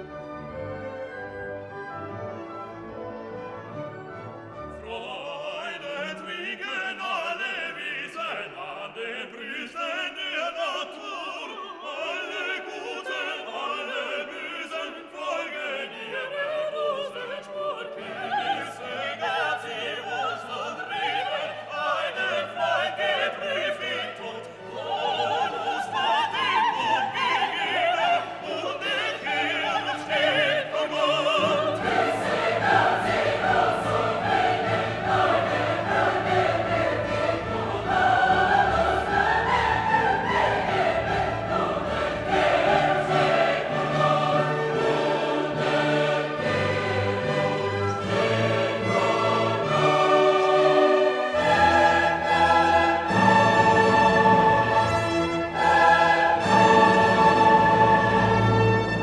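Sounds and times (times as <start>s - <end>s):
classical orchestral music: 0.0s - 59.0s
operatic choral singing: 0.0s - 59.0s.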